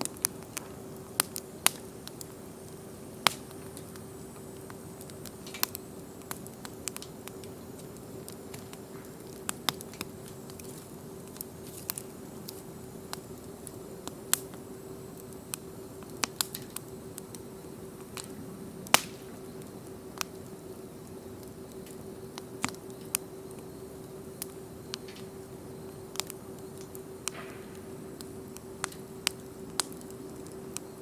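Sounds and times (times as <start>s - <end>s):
faint steady hum: 0.0s - 31.0s
wood fire crackling: 0.0s - 31.0s.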